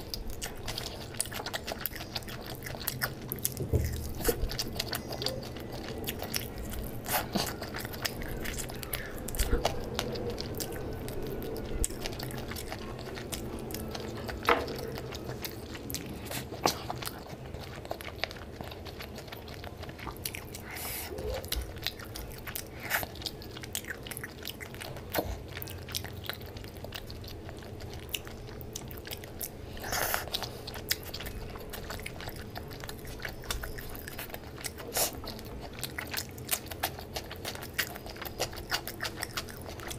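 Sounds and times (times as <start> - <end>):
food crunching: 0.0 - 39.9
person chewing: 0.0 - 39.9.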